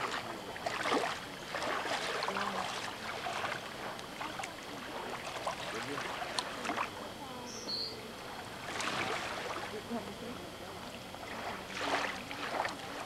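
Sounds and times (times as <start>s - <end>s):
waves lapping on shore: 0.0s - 13.0s.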